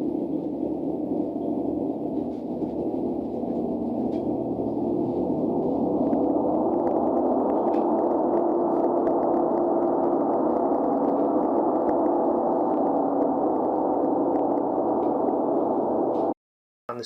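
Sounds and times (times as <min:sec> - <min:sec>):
gong drone: 0:00.0 - 0:16.3.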